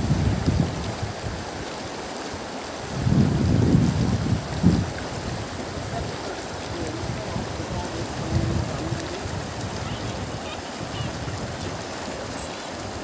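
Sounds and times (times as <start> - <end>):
wind buffeting microphone: 0.0 - 1.6, 2.8 - 13.0
river water rushing: 0.0 - 13.0.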